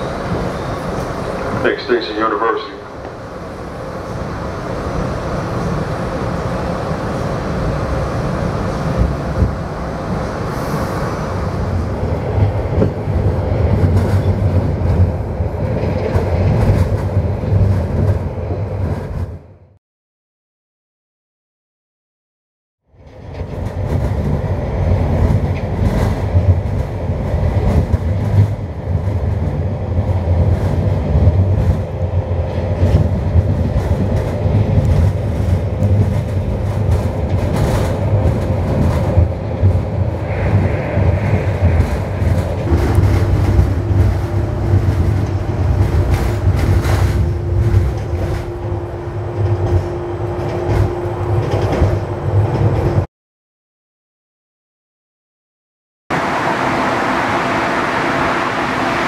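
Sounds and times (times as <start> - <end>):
train rumbling on rails: 0.0 - 19.8, 22.9 - 53.1, 56.1 - 59.0.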